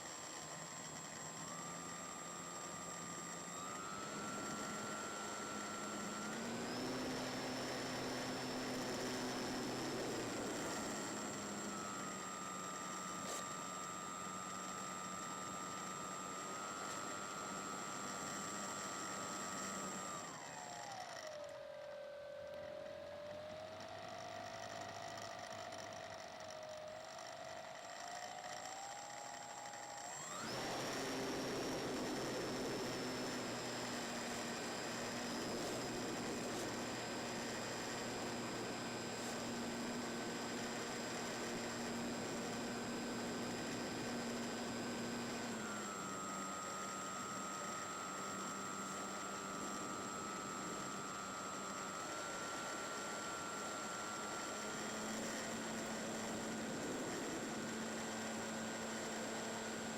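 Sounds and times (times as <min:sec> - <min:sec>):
model plane motor whine: 0:00.0 - 0:59.9.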